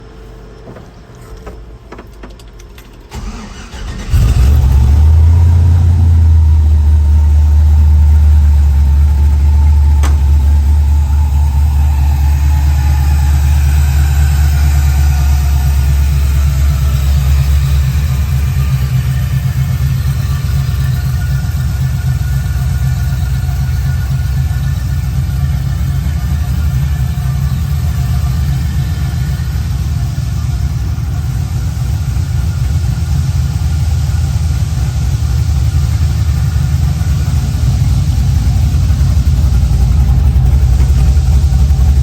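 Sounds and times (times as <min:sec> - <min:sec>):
pickup engine cranking and idling: 0:00.0 - 0:42.0.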